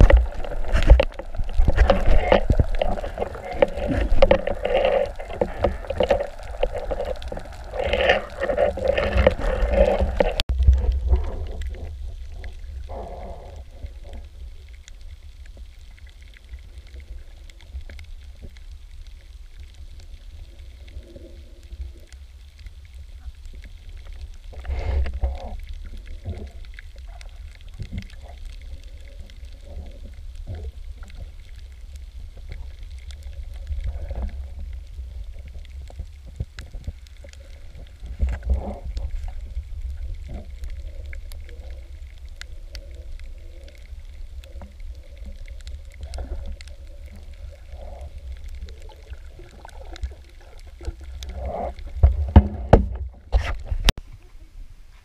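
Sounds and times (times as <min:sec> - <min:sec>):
soft knocks and gurgles: 0:00.0 - 0:14.3, 0:23.5 - 0:54.3
muffled underwater rumble: 0:00.0 - 0:55.0.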